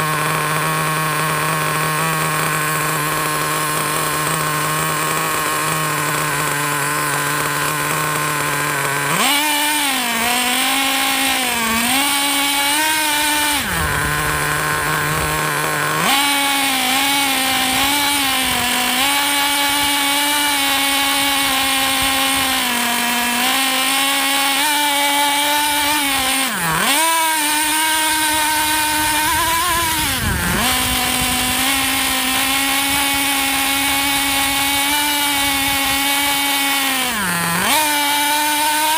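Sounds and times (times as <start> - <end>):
small engine idling and revving: 0.0 - 38.9.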